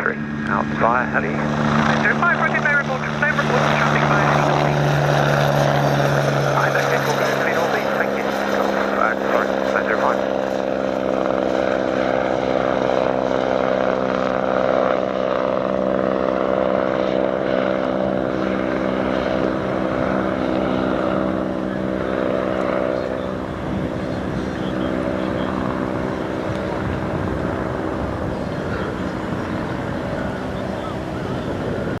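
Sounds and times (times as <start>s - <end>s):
helicopter engine and rotor drone: 0.0s - 32.0s.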